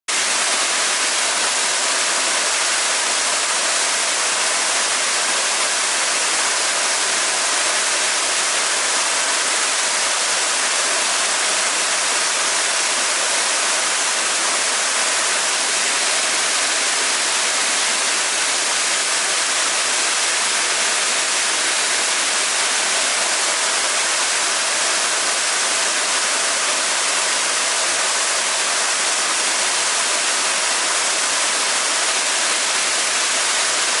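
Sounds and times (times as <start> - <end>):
waterfall splashing onto rock: 0.2 - 34.0.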